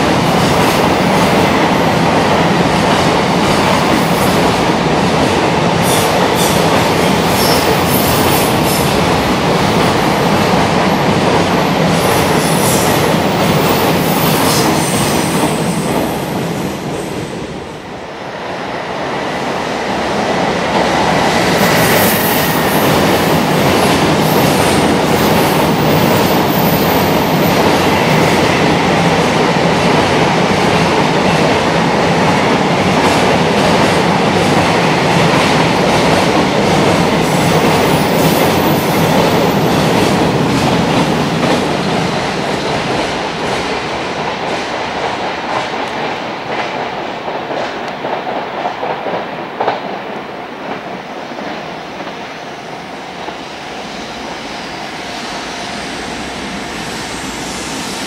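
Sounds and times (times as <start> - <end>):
freight train passing: 0.0 - 58.0.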